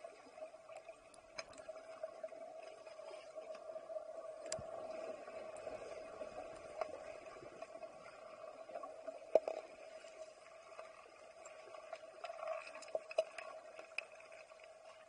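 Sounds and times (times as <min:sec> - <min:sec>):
steady underwater hum: 0:00.0 - 0:15.0.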